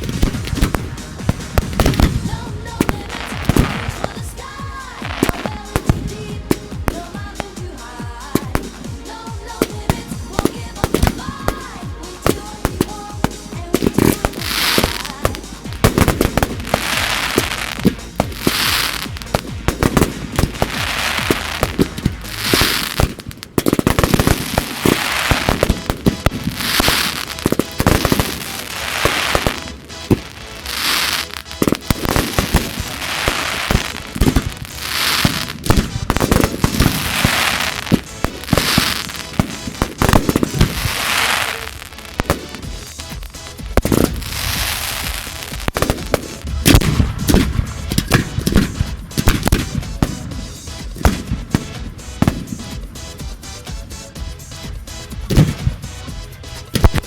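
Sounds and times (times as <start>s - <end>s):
fireworks bangs: 0.0s - 57.0s
hissing crackle of fireworks: 0.0s - 57.0s.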